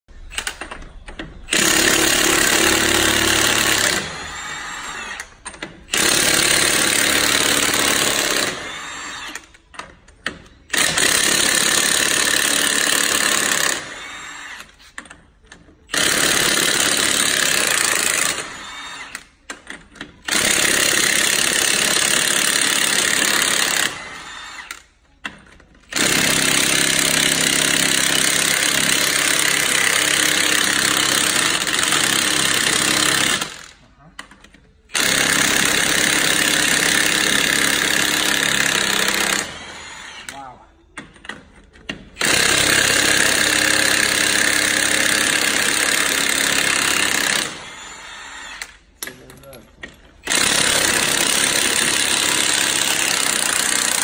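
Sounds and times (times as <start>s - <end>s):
impact wrench hammering: 0.2s - 54.0s.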